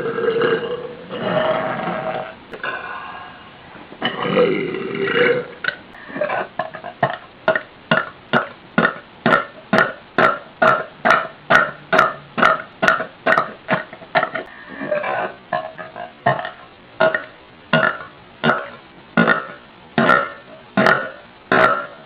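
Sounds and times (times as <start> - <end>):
woman burping: 0.0 - 3.2, 4.0 - 22.0.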